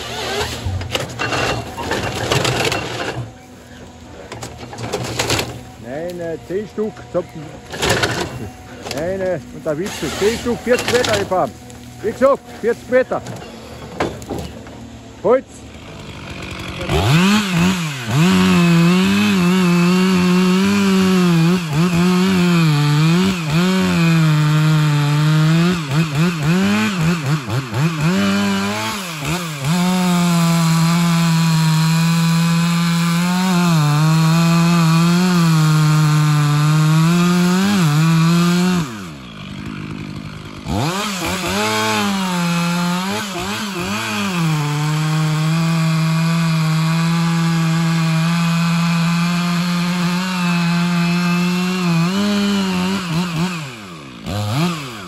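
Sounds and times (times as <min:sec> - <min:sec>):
chainsaw cutting into tree: 0:00.0 - 0:55.0.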